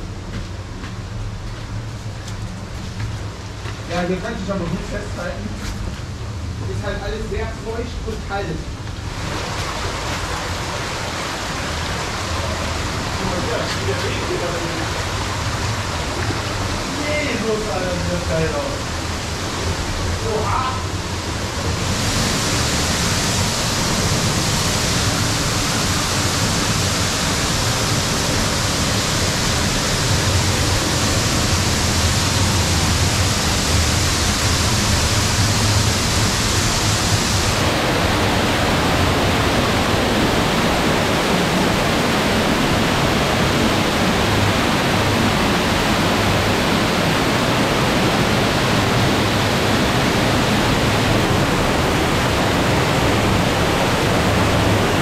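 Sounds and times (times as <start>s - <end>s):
waterfall rushing: 9.1s - 55.0s.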